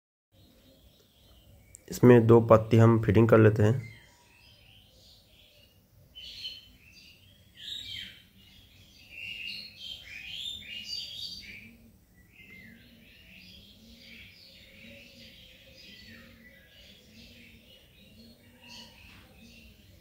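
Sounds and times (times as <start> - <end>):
small birds chirping: 0.3 - 20.0.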